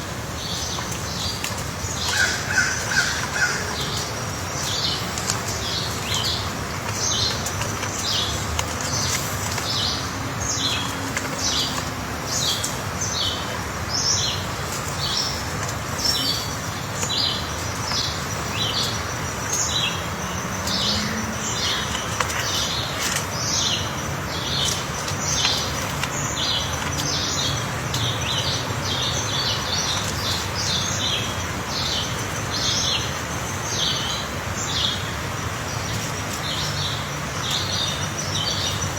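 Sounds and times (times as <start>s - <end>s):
steady background hiss: 0.0s - 38.9s
bird chirping: 0.3s - 38.9s.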